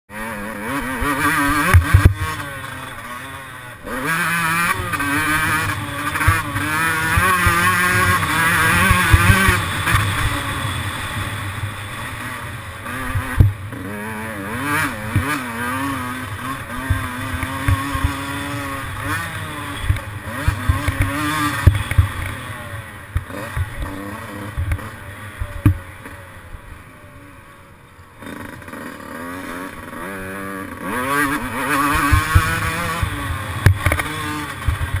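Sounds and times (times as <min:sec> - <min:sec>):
two-stroke motorcycle engine revving: 0:00.1 - 0:35.0.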